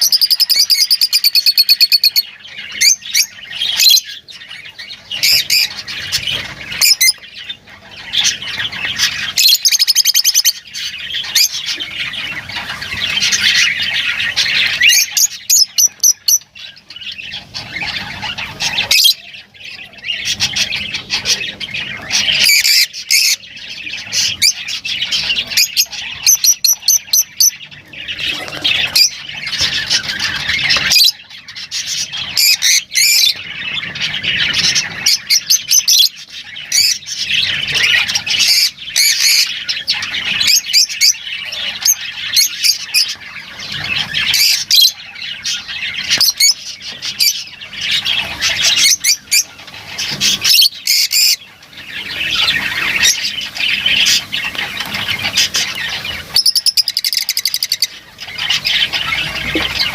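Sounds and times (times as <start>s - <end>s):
lovebirds chirping and squawking: 0.0s - 59.9s.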